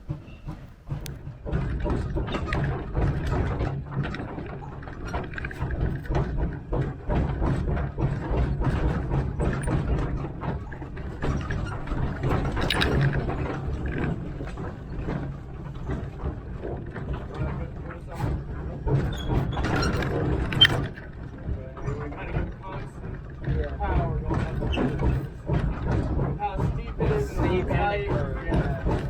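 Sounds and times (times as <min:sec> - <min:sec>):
steam locomotive rolling on track: 0:00.0 - 0:29.0.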